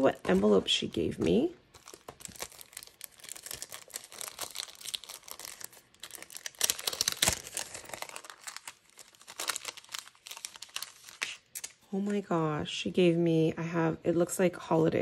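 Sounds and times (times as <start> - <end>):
cellophane crinkling: 0.0 - 12.2.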